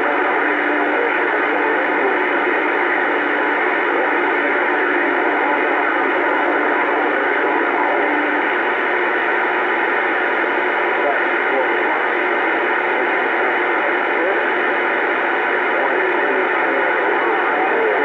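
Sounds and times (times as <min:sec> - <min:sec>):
faint radio tones: 0:00.0 - 0:18.0
radio static hiss: 0:00.0 - 0:18.0.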